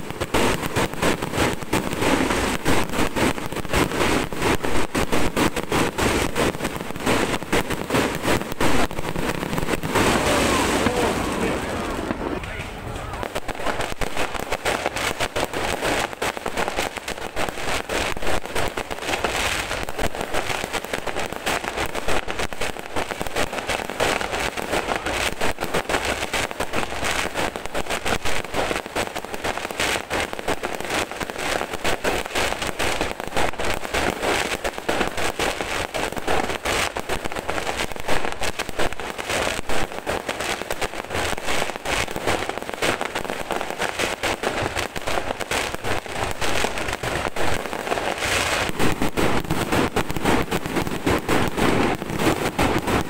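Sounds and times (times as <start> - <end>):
fireworks bangs and pops: 0.0 - 53.0.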